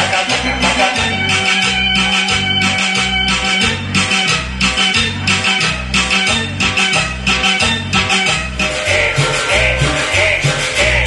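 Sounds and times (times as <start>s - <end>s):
loud cumbia dance music: 0.0s - 11.0s
sustained melody tones: 0.1s - 9.5s.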